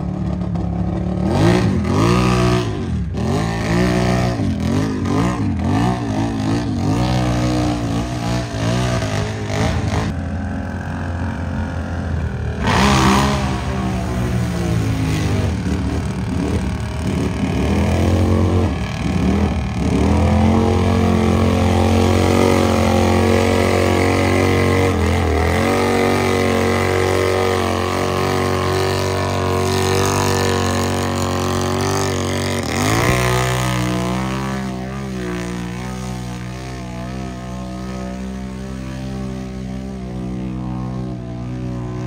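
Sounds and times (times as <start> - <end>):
vehicle engine revving: 0.0 - 42.0.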